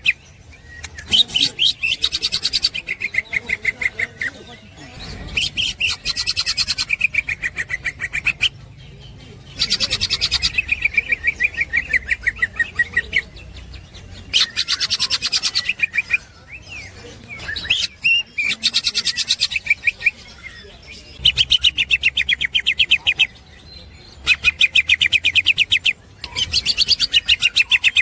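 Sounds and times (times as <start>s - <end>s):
leafbird chattering: 0.0s - 28.0s.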